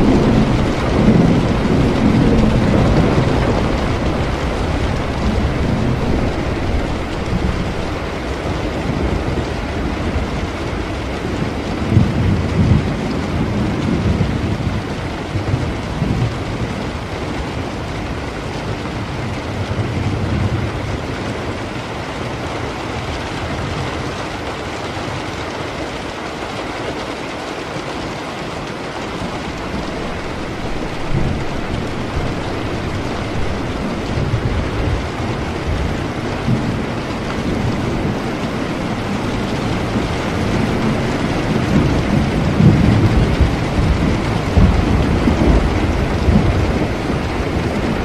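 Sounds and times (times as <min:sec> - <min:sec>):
steady rain: 0:00.0 - 0:48.0
thunder rumbling: 0:00.0 - 0:48.0.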